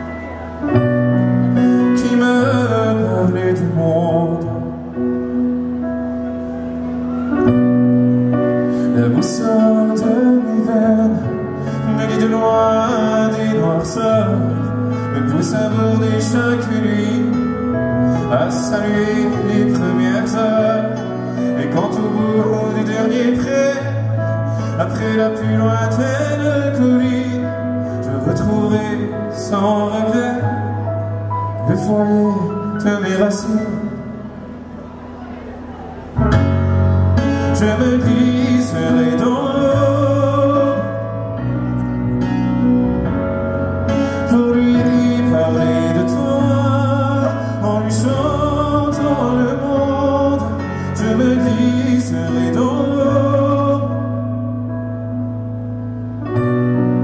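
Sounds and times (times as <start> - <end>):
band playing live: 0.0 - 57.0
man singing: 0.7 - 5.4, 8.8 - 34.5, 36.3 - 41.8, 43.7 - 54.7.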